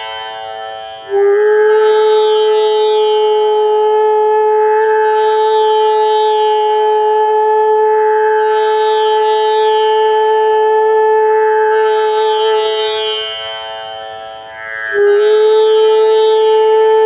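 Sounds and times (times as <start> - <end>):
bamboo flute holding long note: 0.0 - 17.0
tanpura drone plucked strings: 0.0 - 17.0.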